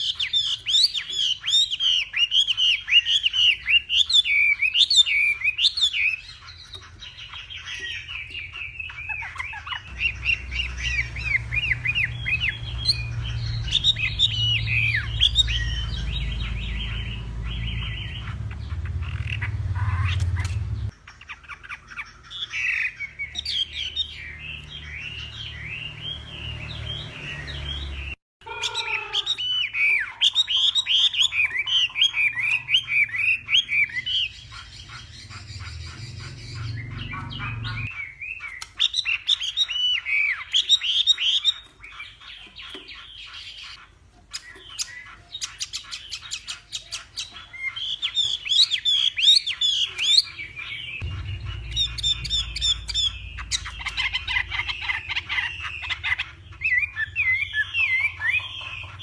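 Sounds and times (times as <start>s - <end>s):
bird singing whistled song: 0.0s - 28.1s, 28.7s - 59.0s.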